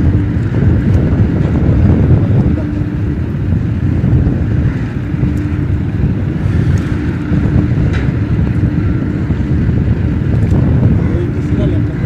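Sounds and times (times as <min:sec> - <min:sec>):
faint hum: 0:00.0 - 0:12.0
wind buffeting microphone: 0:00.0 - 0:12.0.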